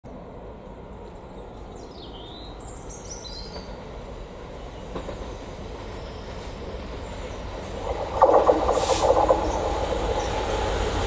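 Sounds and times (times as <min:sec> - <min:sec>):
distant diesel locomotive rumble: 0:00.1 - 0:11.0.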